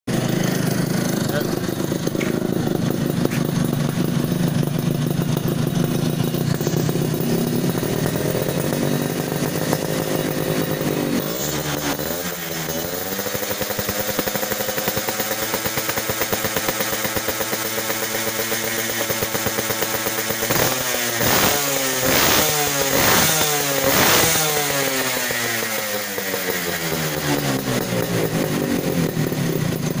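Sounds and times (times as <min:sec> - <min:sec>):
two-stroke motorcycle engine revving: 0:00.1 - 0:30.0.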